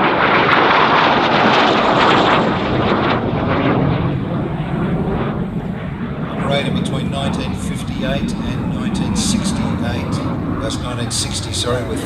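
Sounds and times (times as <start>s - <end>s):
jet fighter flying past: 0.0s - 12.0s.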